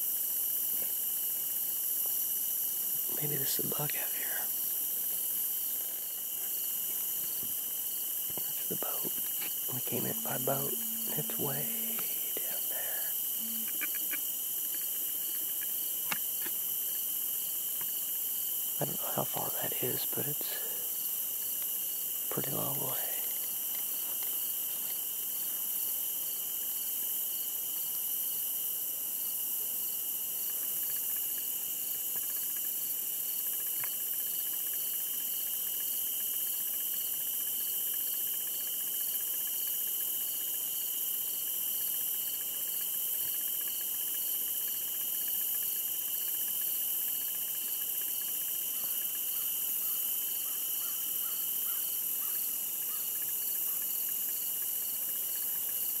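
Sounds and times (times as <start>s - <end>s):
insect chorus trilling: 0.0s - 56.0s
pulsing insect call: 0.0s - 56.0s.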